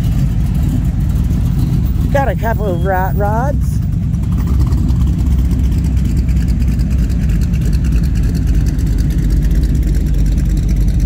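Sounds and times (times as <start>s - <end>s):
car engines rumbling at low speed: 0.0s - 11.0s.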